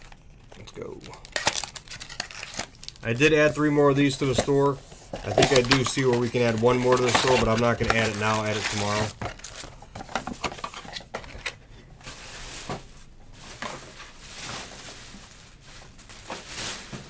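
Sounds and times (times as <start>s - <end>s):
rustling of foil card packs: 0.0s - 17.0s.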